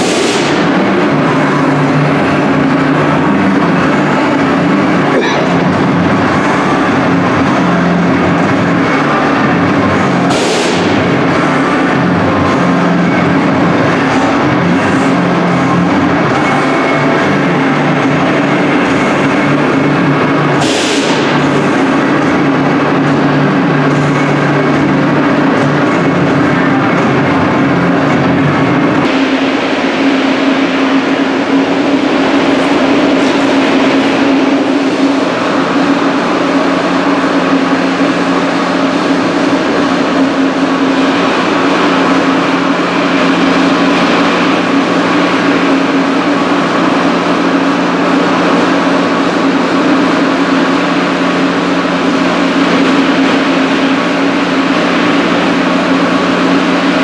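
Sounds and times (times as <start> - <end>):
extraction fans roaring: 0.0 - 57.0.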